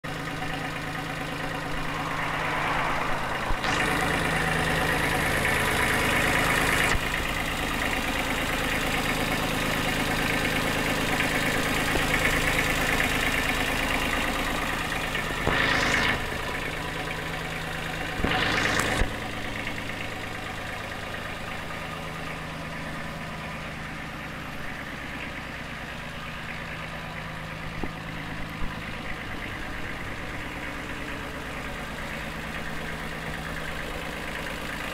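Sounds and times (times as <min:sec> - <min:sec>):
diesel tractor engine idling: 0:00.0 - 0:34.9.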